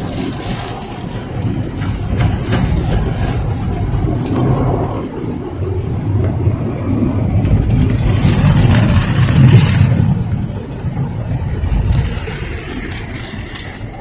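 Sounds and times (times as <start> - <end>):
car wash low rumble: 0.0 - 14.0.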